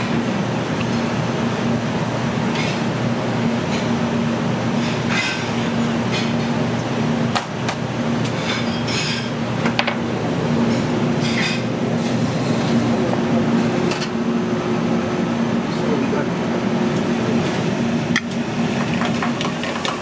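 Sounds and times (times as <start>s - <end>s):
low ventilation hum: 0.0s - 20.0s.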